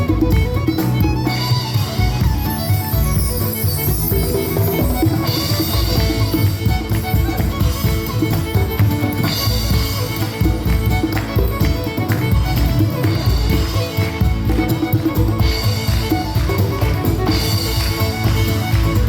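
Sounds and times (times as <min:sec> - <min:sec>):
drums: 0:00.0 - 0:19.0
live band playing: 0:00.0 - 0:19.0.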